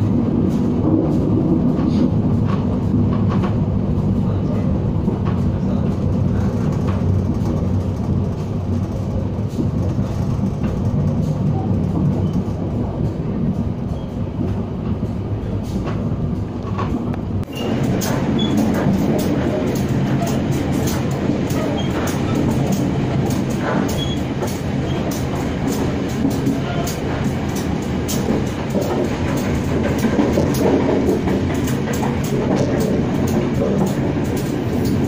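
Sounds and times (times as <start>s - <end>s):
train rumbling at speed: 0.0s - 35.0s
train wheels clicking on track: 0.0s - 35.0s.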